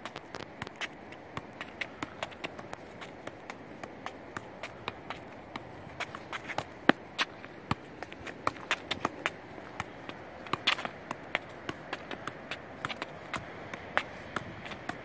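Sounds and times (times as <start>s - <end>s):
soccer ball taps: 0.0s - 15.0s.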